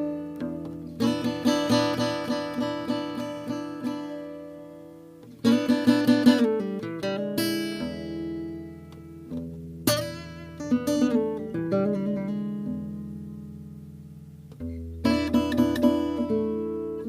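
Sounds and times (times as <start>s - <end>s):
acoustic guitar chords and picking: 0.0s - 17.0s.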